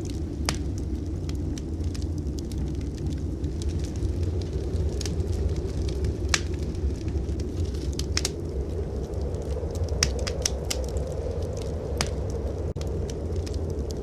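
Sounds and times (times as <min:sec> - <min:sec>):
fire popping and snapping: 0:00.0 - 0:14.0
low rumble: 0:00.0 - 0:14.0
wood fire crackling: 0:00.0 - 0:14.0.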